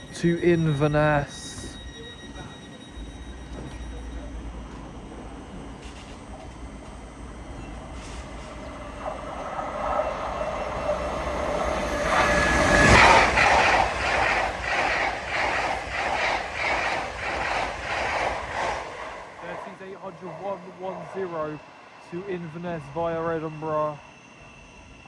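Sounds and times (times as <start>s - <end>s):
train passing hum: 0.0s - 25.0s.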